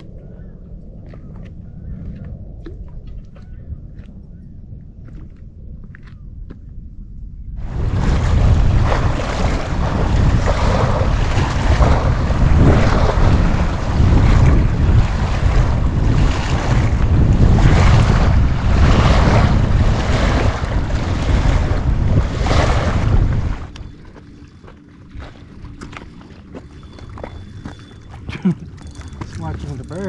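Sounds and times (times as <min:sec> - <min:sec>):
wind blowing across microphone: 0:00.0 - 0:24.3.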